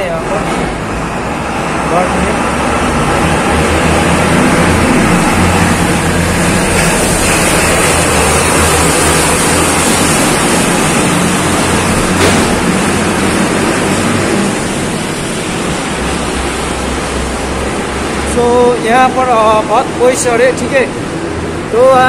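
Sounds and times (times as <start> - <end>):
road tunnel rushing noise: 0.0 - 22.0.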